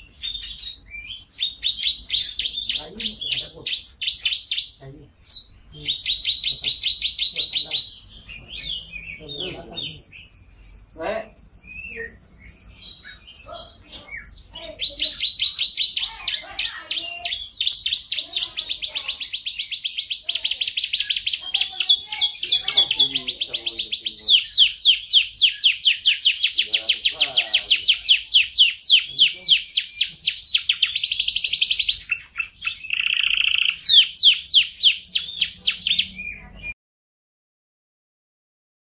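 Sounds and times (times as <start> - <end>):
canary singing trills: 0.0 - 36.8.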